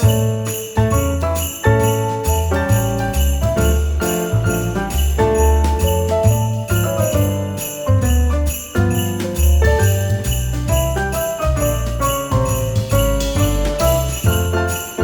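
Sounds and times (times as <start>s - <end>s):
sleigh bells shaking: 0.0s - 15.0s
upbeat festive music: 0.0s - 15.0s.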